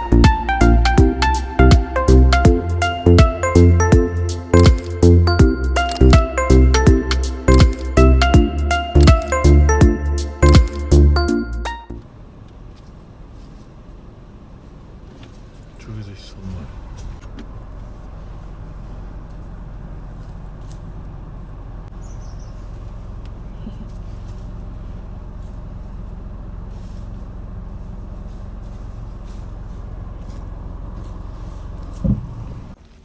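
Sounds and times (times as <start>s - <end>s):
moving vehicle rumble: 0.0s - 33.0s
road and wind noise: 0.0s - 33.0s.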